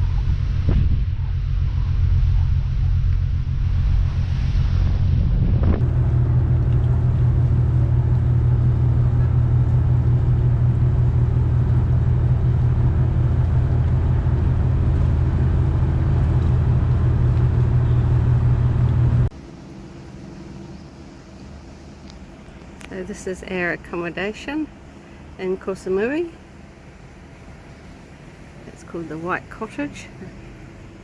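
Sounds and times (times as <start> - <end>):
quiet background hum: 0.0 - 31.0
vehicle engine rumble: 0.0 - 31.0.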